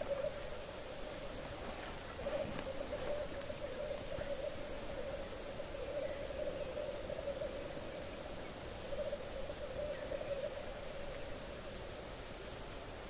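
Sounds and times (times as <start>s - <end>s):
grouse bubbling cooing chorus: 0.0s - 11.4s.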